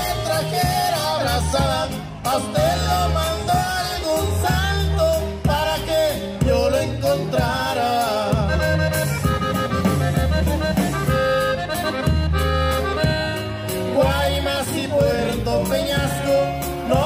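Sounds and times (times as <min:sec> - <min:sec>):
accordion melody: 0:00.0 - 0:17.0
bass: 0:00.0 - 0:17.0
drums: 0:00.0 - 0:17.0
guitar: 0:00.0 - 0:17.0.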